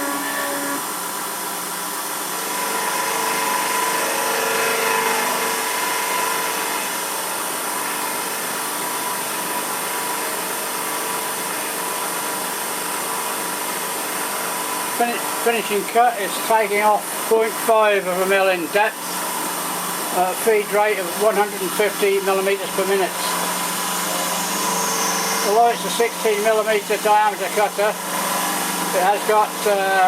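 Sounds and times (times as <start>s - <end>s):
metal cutting noise: 0.0s - 8.8s, 13.8s - 30.0s
milling machine spindle whine: 0.0s - 30.0s.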